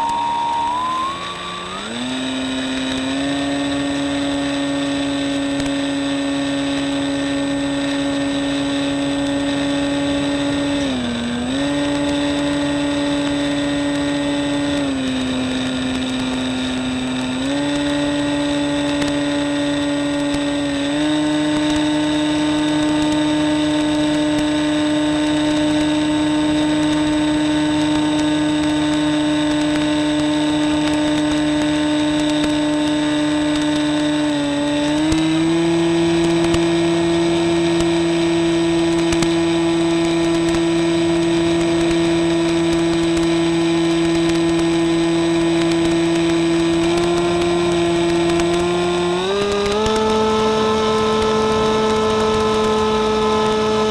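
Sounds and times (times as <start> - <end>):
electric motor whine: 0.0 - 53.9.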